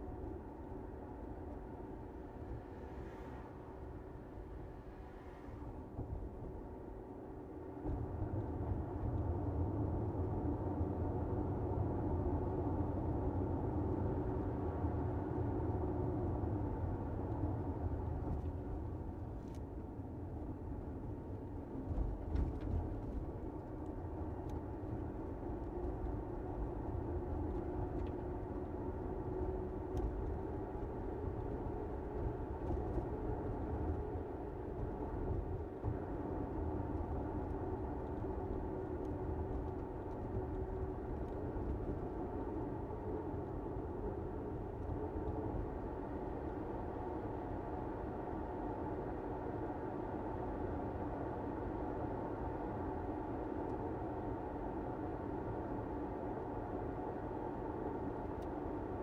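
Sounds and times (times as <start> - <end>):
car road and tyre rumble: 0.0 - 59.0.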